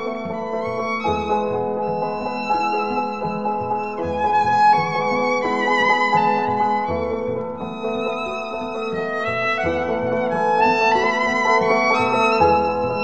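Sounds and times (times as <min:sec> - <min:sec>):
violin melody with accompaniment: 0:00.0 - 0:13.0.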